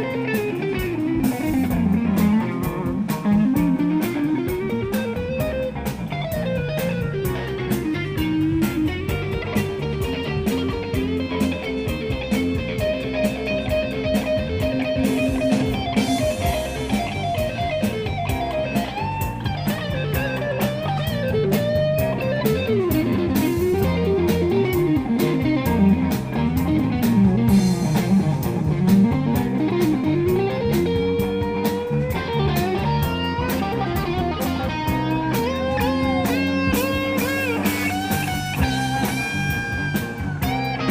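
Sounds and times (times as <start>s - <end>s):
electric guitar lead line: 0.0s - 40.9s
rock band playing live: 0.0s - 40.9s.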